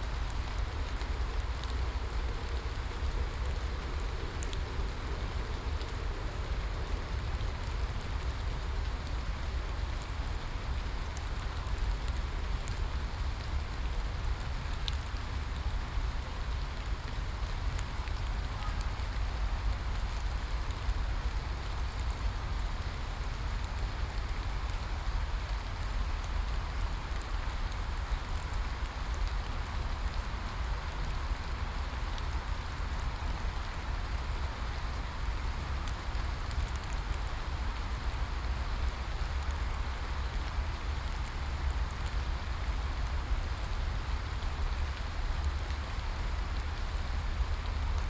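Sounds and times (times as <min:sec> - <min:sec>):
steady rain hiss: 0:00.0 - 0:48.0
raindrop ticks: 0:00.1 - 0:48.0.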